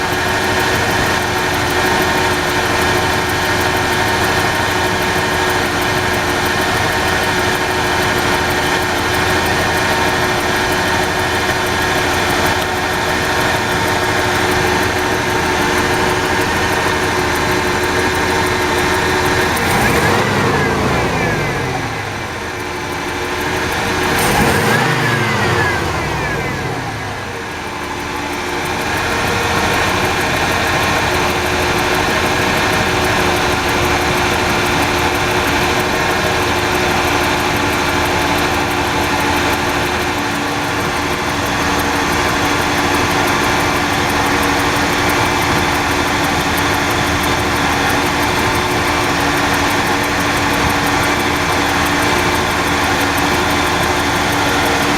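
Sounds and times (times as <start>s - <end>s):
engine revving and idling: 0.0s - 54.9s.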